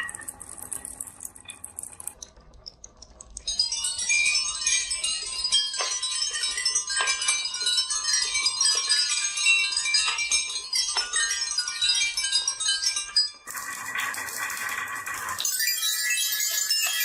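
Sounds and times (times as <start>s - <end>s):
glass marbles clattering: 0.0s - 17.0s.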